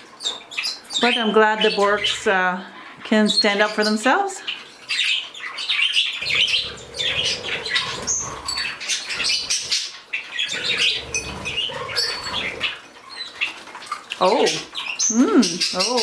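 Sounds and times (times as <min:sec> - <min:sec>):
small birds chirping and squawking: 0:00.0 - 0:16.0.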